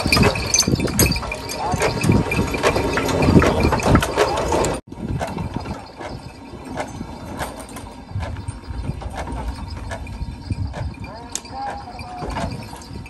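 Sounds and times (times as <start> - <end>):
knocks and clatter of mill gearing: 0.0 - 13.0.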